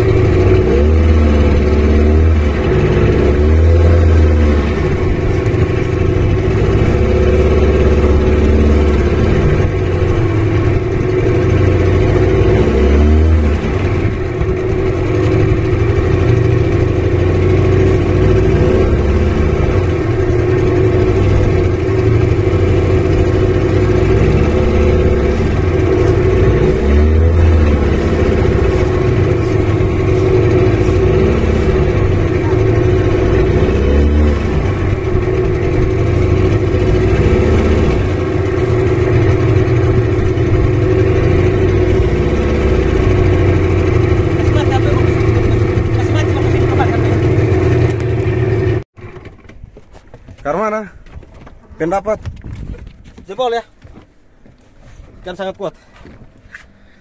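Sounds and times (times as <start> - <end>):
boat motor running: 0.0 - 57.0.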